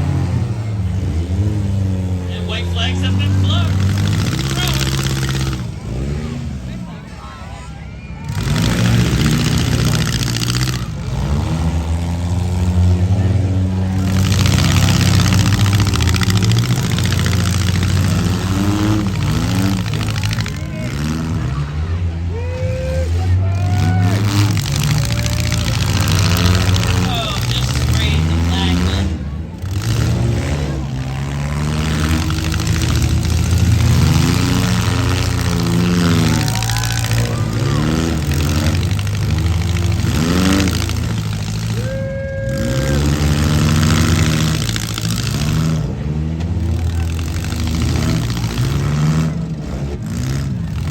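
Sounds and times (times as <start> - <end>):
car engines revving hard: 0.0 - 50.9.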